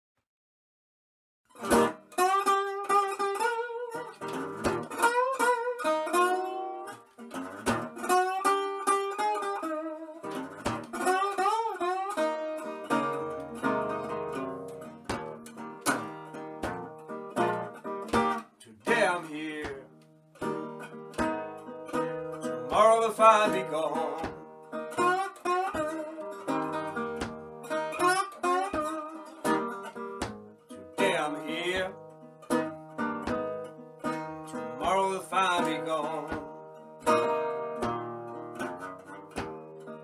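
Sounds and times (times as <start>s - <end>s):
resonator guitar blues picking: 1.5s - 40.0s.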